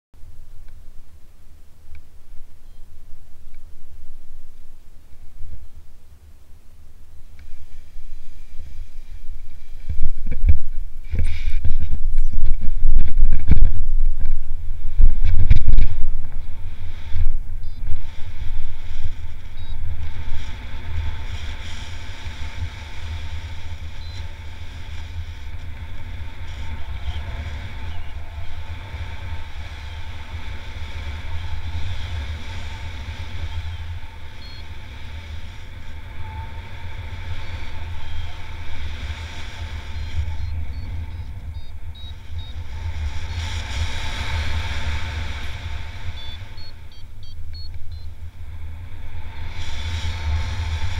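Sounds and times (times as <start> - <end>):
wind buffeting microphone: 1.8 - 50.9.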